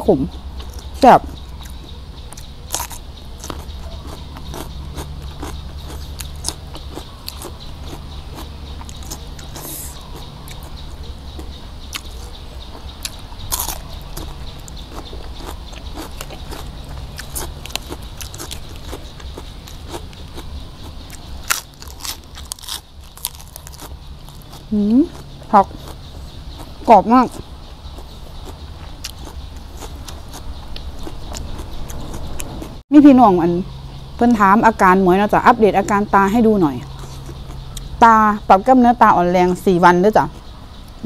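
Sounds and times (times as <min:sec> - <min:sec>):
chewing crisp vegetables: 0:00.4 - 0:32.8, 0:35.8 - 0:38.0.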